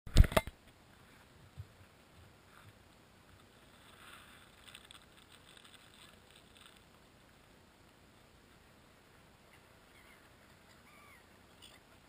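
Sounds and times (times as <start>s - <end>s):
faint background noise: 0.1s - 12.0s.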